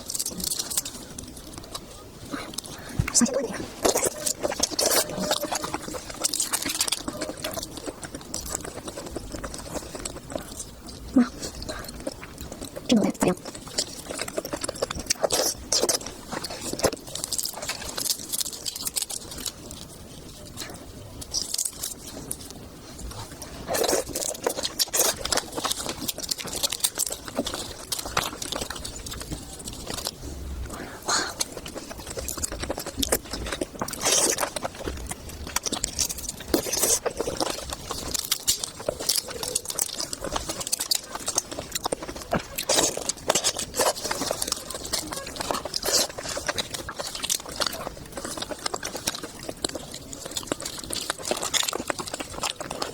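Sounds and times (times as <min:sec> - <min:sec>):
wet chewing and lip smacking: 0:00.0 - 0:52.9.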